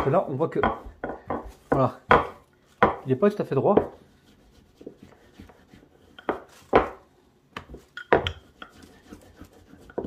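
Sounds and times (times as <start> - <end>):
rolling pin knocking and rubbing: 0.0 - 3.1, 3.7 - 10.0.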